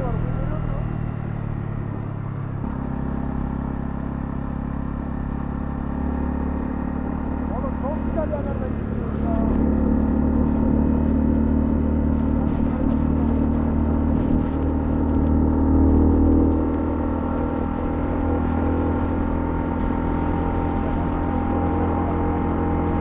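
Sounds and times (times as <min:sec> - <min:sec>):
single-cylinder engine running: 0:00.0 - 0:23.0.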